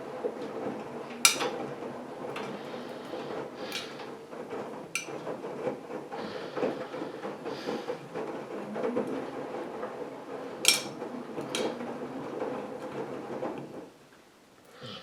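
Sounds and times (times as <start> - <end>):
laundry tumbling in drum: 0.0 - 14.1
washing machine motor hum: 0.0 - 15.0.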